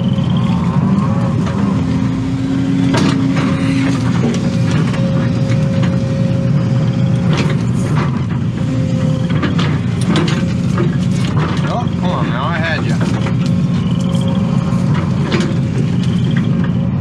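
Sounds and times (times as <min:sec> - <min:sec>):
excavator diesel engine running: 0:00.0 - 0:17.0
hydraulic whine: 0:00.0 - 0:17.0.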